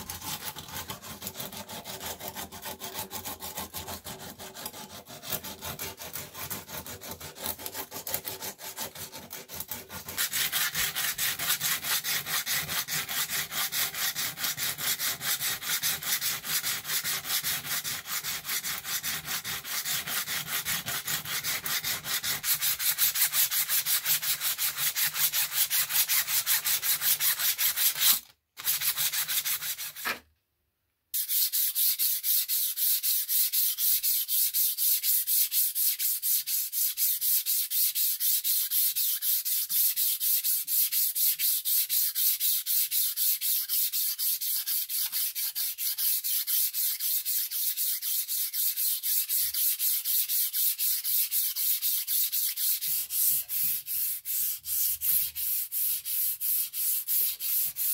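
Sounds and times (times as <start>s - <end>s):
sandpaper rasping on steel: 0.0s - 30.2s, 31.2s - 57.9s.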